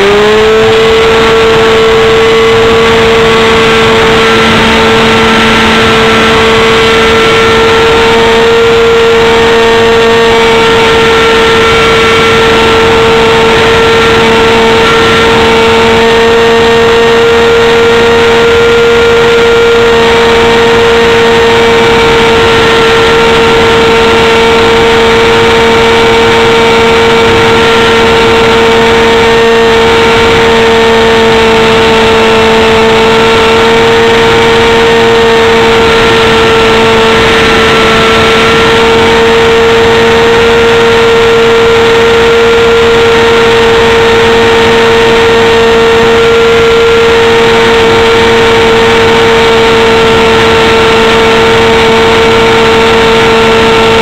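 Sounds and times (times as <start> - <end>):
model airplane engine drone: 0.0 - 54.0.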